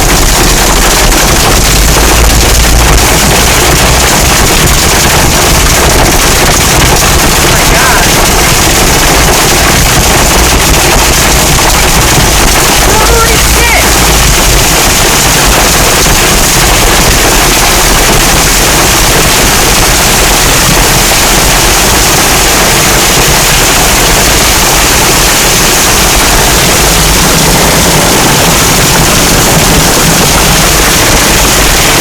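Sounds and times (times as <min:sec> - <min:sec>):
hailstones pelting a car roof: 0:00.0 - 0:32.0.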